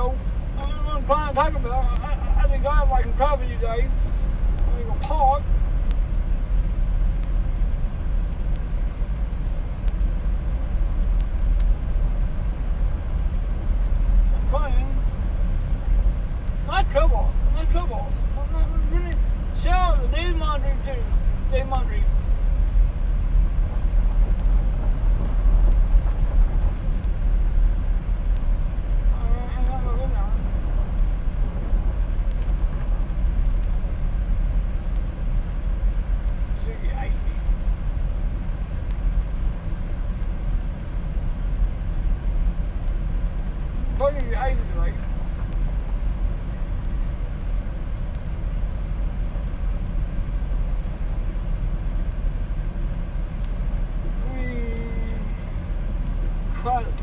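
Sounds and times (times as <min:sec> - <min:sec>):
car interior engine and road noise: 0:00.0 - 0:57.0.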